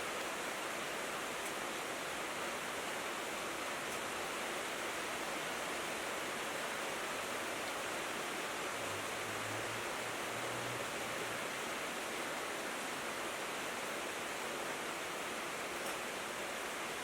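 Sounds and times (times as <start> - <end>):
rain on a tin roof: 0.0 - 17.0.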